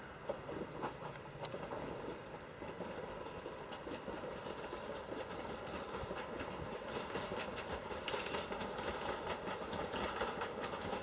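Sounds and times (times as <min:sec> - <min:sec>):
train rolling rumble: 0:00.0 - 0:11.0
wheels clicking over rail joints: 0:00.0 - 0:11.0.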